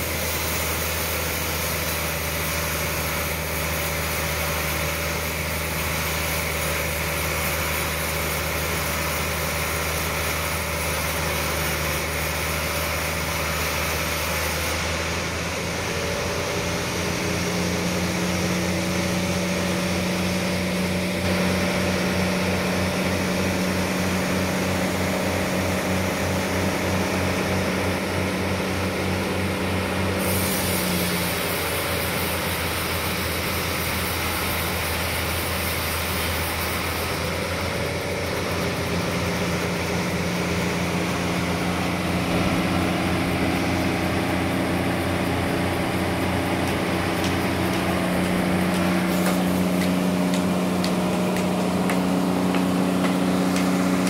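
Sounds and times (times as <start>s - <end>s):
bandsaw machine hum: 0.0s - 54.0s.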